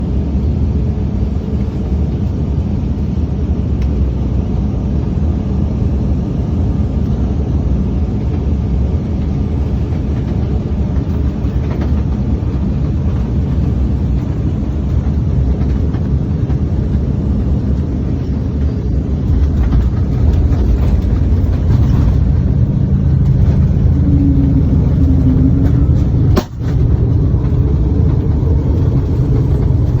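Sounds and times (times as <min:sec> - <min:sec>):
low rumble of engines and airflow: 0:00.0 - 0:30.0.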